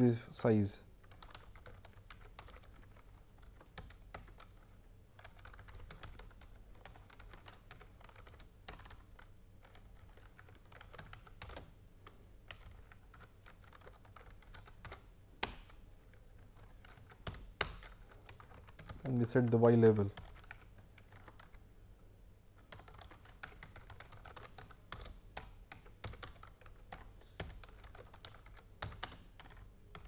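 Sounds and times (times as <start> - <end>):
computer keyboard typing: 1.0 - 21.6, 22.6 - 30.0.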